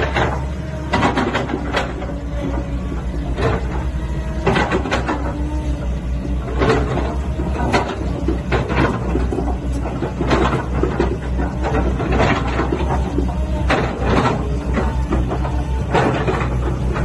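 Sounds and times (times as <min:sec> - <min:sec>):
bucket linkage clunks and creaks: 0:00.0 - 0:17.0
excavator diesel engine running: 0:00.0 - 0:17.0.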